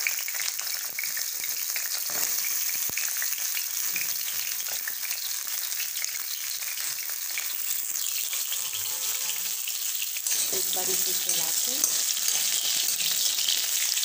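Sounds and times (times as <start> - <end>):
oil crackling and popping: 0.0 - 14.0
vegetables sizzling in hot oil: 0.0 - 14.0.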